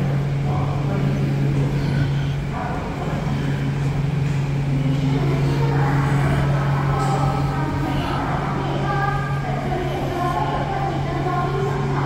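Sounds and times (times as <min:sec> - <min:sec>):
railway car hum and rumble: 0:00.0 - 0:12.0.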